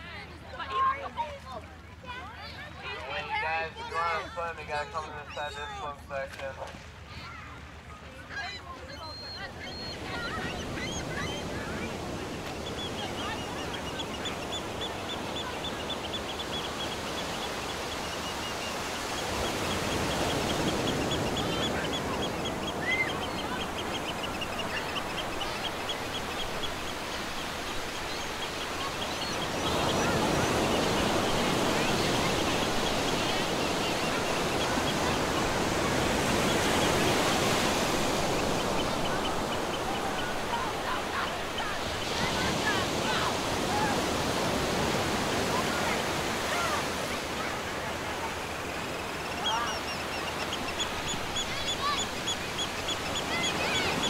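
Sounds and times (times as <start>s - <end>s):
sea surf: 0.0s - 54.0s.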